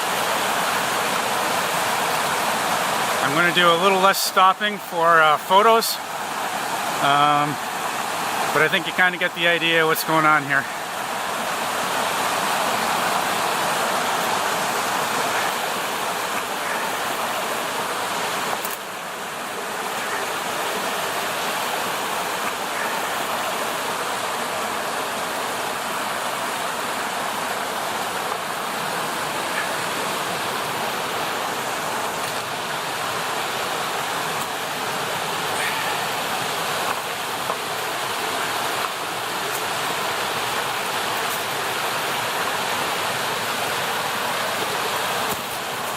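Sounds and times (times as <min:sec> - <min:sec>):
creek water over rocks: 0:00.0 - 0:45.9.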